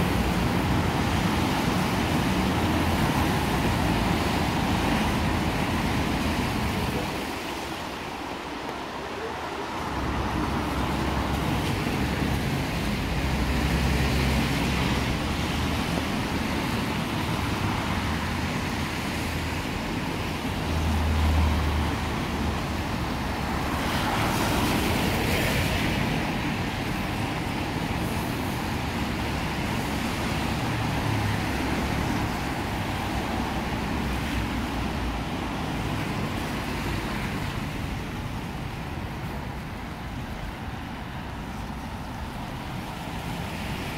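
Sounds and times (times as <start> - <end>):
tyres hissing on wet road: 0.0 - 43.9
vehicle engines rumbling: 0.0 - 43.9.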